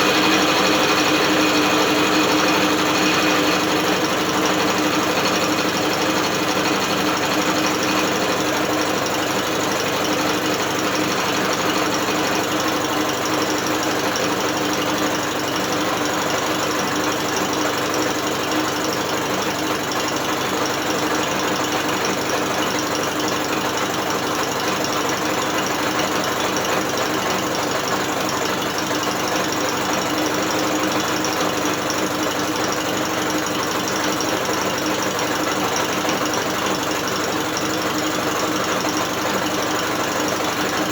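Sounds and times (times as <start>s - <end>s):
drill spinning outboard motor: 0.0s - 18.2s, 23.4s - 40.9s.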